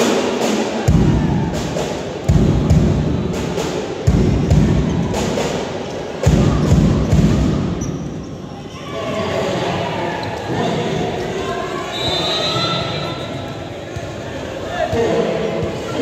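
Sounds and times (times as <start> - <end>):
crowd noise: 0.0 - 16.0.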